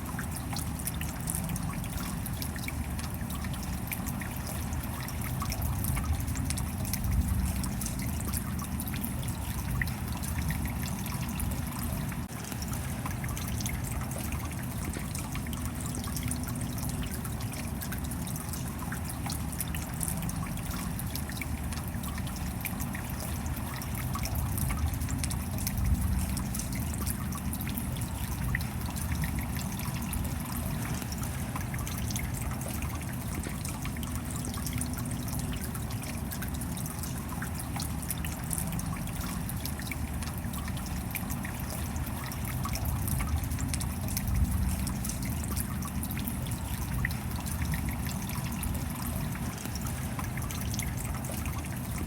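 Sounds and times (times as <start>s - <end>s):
rain falling steadily: 0.0s - 52.0s.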